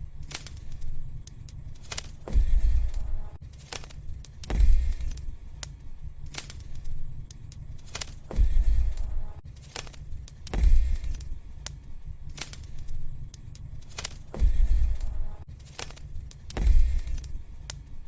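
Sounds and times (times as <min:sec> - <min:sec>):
deep flame rumbles: 0:00.0 - 0:09.4, 0:10.0 - 0:15.5, 0:16.1 - 0:18.0
soft hiss: 0:00.0 - 0:18.0
wood fire crackling: 0:00.0 - 0:18.0.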